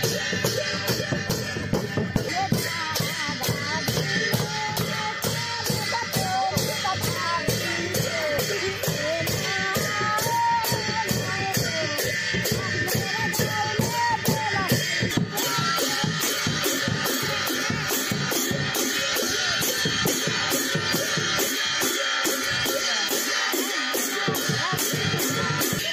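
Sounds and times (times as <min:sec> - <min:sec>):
background music with beat: 0:00.0 - 0:25.9.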